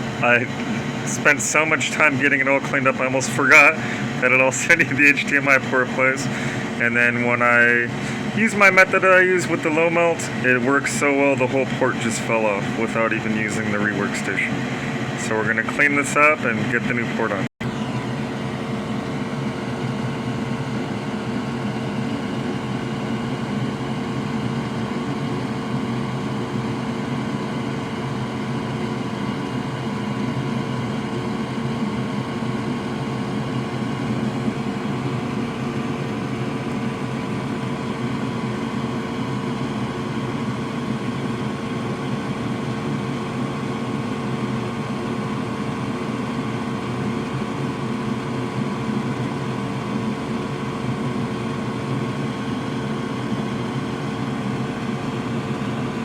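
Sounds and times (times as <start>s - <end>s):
fan humming and whirring: 0.0s - 56.0s.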